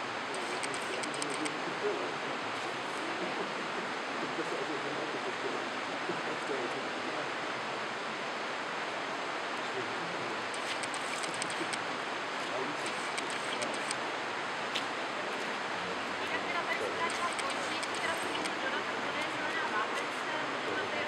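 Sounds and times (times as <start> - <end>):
faint voices murmuring: 0.0 - 21.0
rushing water: 0.0 - 21.0.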